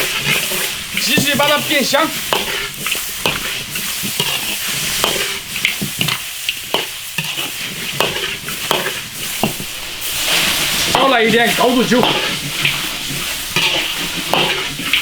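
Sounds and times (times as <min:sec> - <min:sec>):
meat sizzling in a wok: 0:00.0 - 0:15.0
spatula scraping a wok: 0:00.0 - 0:15.0.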